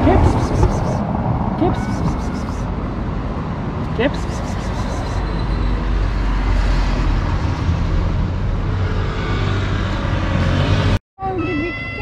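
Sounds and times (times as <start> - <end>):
vehicle engine and tyres passing: 0.0 - 11.0.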